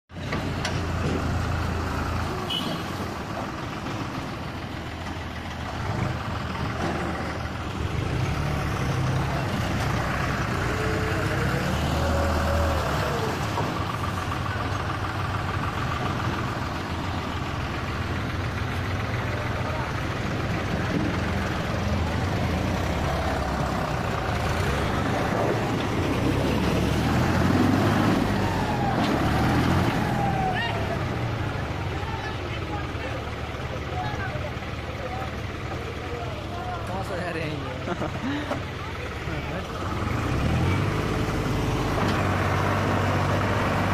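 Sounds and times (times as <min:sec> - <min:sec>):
tractor diesel engine droning: 0:00.1 - 0:43.9
wheels churning mud: 0:00.2 - 0:43.9.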